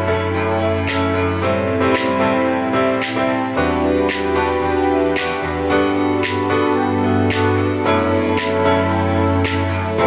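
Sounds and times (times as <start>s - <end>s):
instrumental electronic music: 0.0s - 10.0s.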